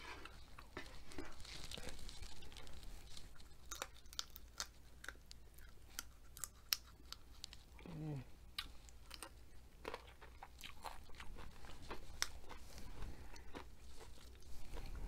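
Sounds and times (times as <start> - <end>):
person biting and chewing food: 0.0 - 7.8, 8.5 - 15.0.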